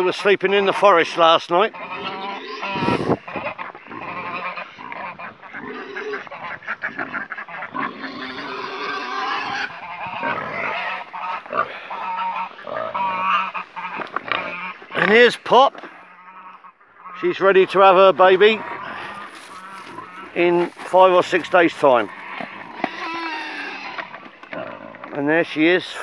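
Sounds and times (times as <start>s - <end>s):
geese honking: 0.4s - 24.9s.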